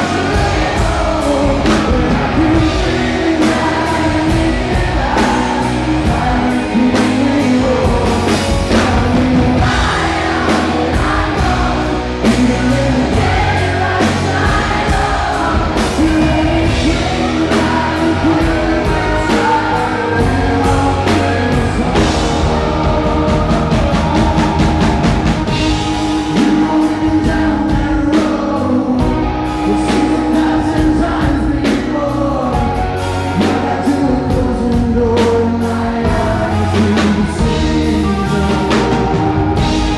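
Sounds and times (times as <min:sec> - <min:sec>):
drums: 0:00.0 - 0:39.9
electric guitar: 0:00.0 - 0:39.9
man singing lead vocal: 0:00.0 - 0:39.9.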